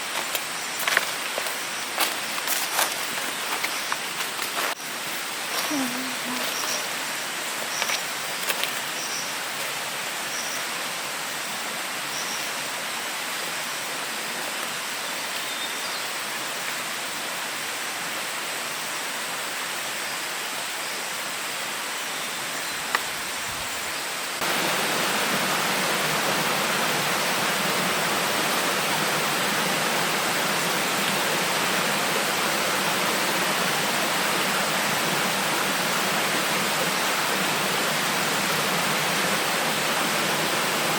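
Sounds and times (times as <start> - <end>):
forest stream rushing: 0.0 - 40.9.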